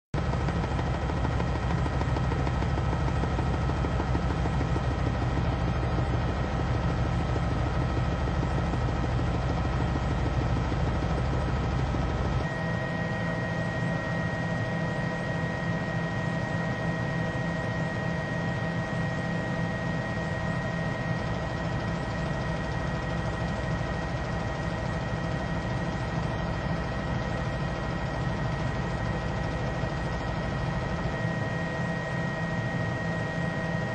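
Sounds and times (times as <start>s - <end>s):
helicopter engine and rotor drone: 0.2s - 33.9s.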